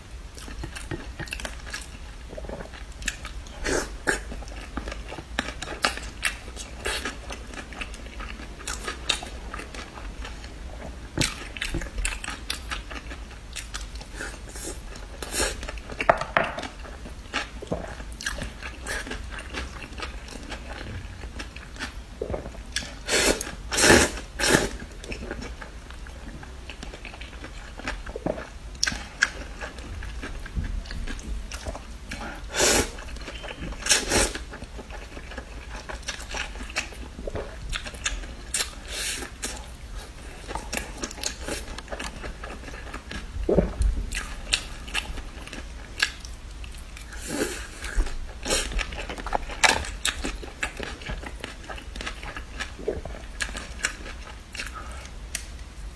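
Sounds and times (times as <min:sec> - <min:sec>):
woman chewing food: 0:00.3 - 0:55.7.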